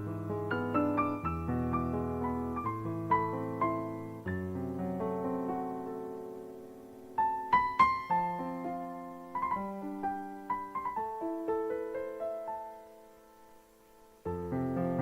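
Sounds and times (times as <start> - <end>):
piano chords and notes: 0.0 - 15.0.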